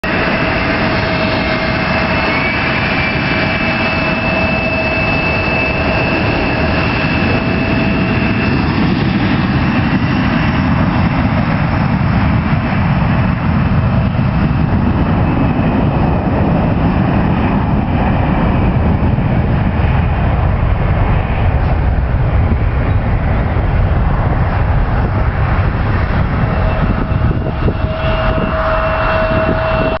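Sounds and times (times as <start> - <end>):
jet engines during takeoff: 0.0 - 30.0.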